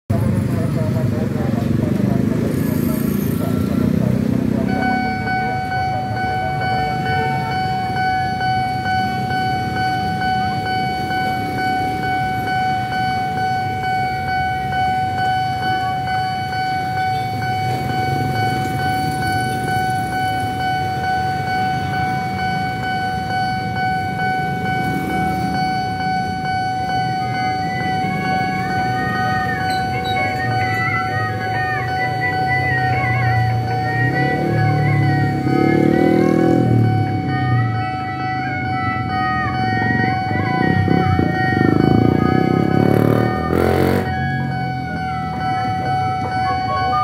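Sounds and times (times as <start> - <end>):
level crossing alarm tone: 0.1 - 47.0
motorcycles passing: 0.1 - 47.0.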